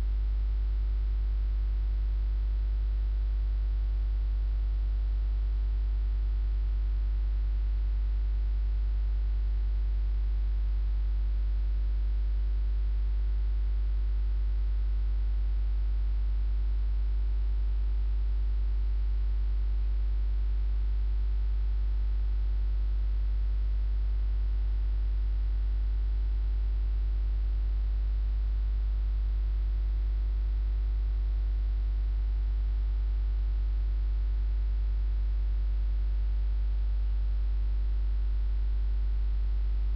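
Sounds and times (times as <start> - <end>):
electrical mains hum: 0.0 - 28.1, 31.8 - 39.9.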